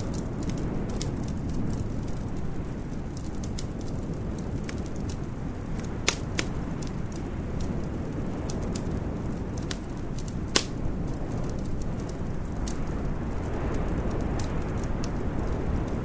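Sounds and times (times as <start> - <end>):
low rumble of fire: 0.0 - 16.0
sharp pops of burning wood: 0.0 - 16.0
wood fire crackling: 0.0 - 16.0.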